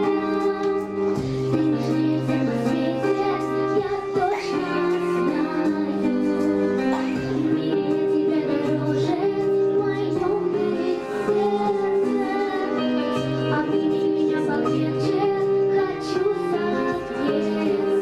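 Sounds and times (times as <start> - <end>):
girl singing into a microphone: 0.0 - 18.0
instrumental accompaniment with bass: 0.0 - 18.0.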